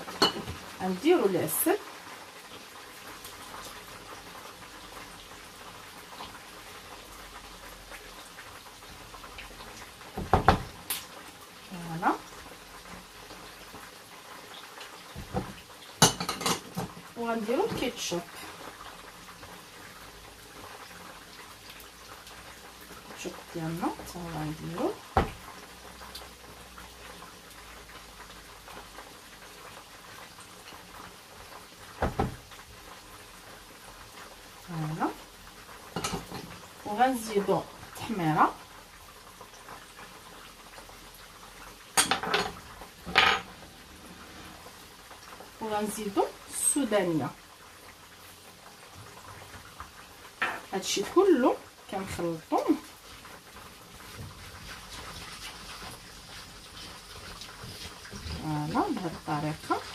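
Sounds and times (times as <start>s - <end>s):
hot oil sizzling and crackling: 0.0s - 59.9s.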